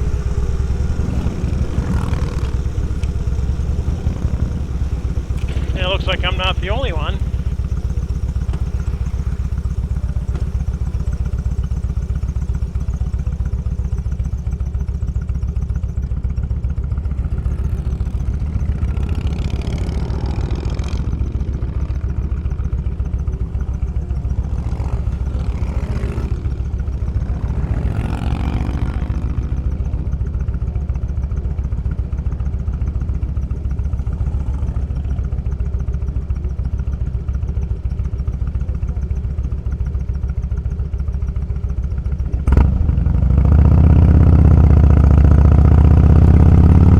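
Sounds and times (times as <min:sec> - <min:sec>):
motorcycle engine running: 0:00.0 - 0:46.9
passing vehicles: 0:00.0 - 0:46.9.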